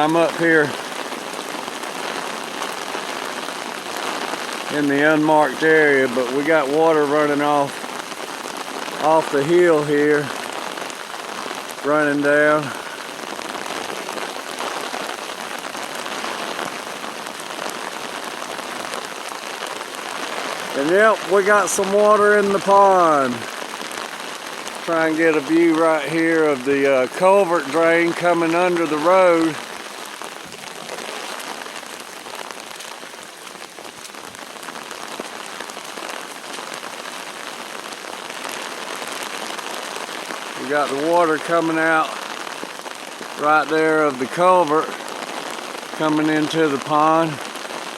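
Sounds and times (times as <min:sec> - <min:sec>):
heavy rain on an umbrella: 0:00.0 - 0:47.9.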